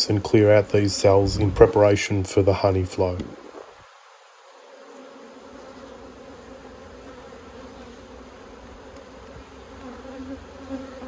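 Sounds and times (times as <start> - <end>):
honey bees buzzing: 0.0 - 11.0.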